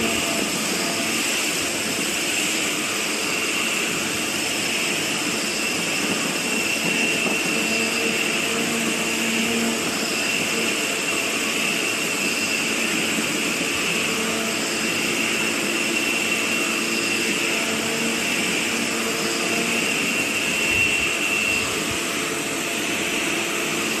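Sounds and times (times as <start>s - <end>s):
high machining whine: 0.0s - 24.0s
milling machine cutting metal: 0.0s - 24.0s.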